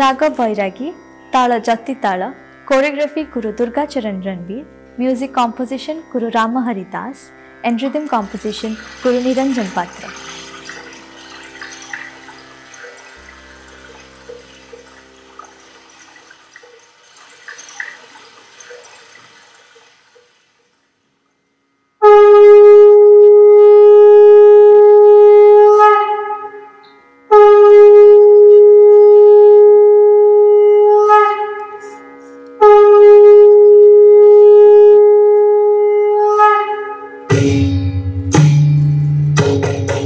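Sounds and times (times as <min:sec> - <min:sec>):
conch shell blowing: 0:00.0 - 0:20.3, 0:22.0 - 0:39.1.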